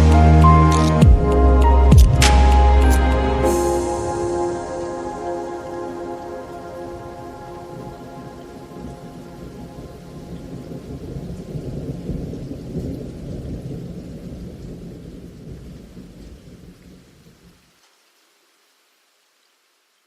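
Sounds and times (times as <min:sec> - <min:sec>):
thunder rumbling: 0:00.0 - 0:17.4
rain: 0:00.0 - 0:20.0.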